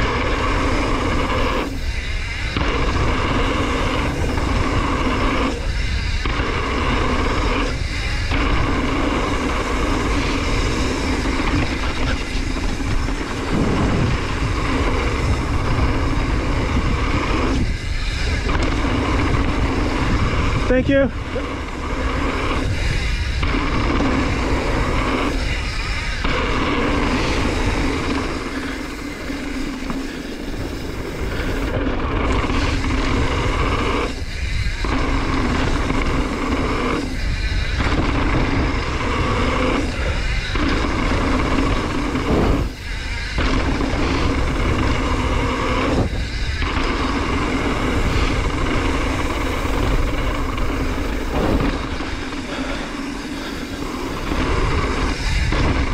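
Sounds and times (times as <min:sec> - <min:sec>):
bike tyre rumble on dirt: 0:00.0 - 0:55.9
wind on microphone: 0:00.0 - 0:55.9.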